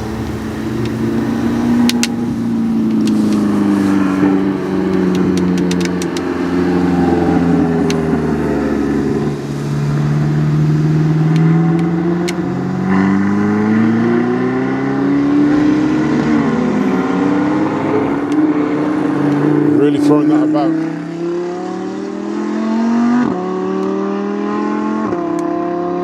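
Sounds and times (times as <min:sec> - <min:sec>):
sports car engine revving: 0:00.0 - 0:26.0.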